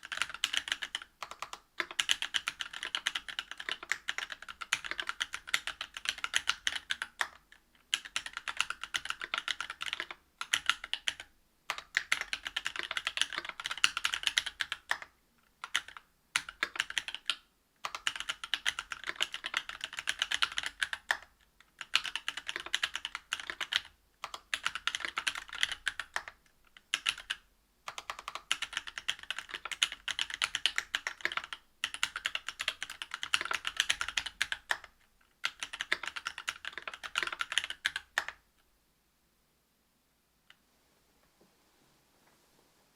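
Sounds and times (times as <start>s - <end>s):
mechanical keyboard typing: 0.0s - 38.4s.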